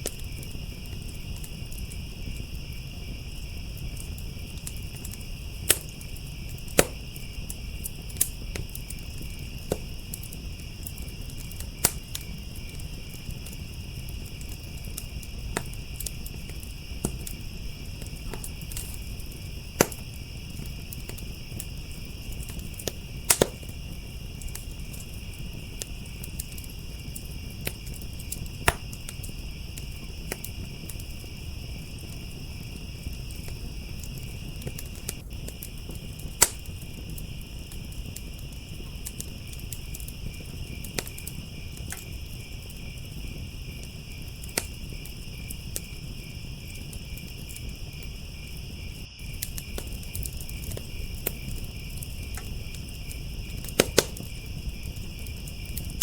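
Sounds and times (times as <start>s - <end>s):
crickets chirping: 0.0s - 56.0s
fire popping sharply: 0.0s - 56.0s
wood fire crackling: 0.0s - 56.0s.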